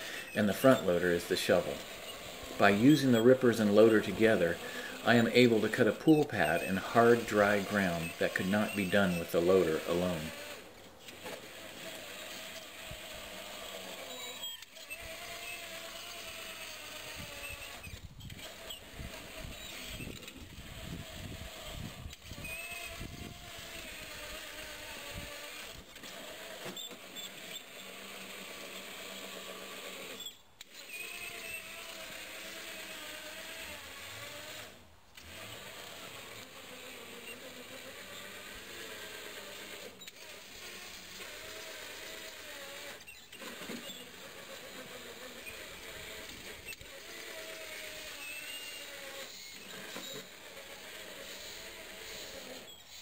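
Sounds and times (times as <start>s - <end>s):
electric tractor motor whining: 0.0s - 53.0s.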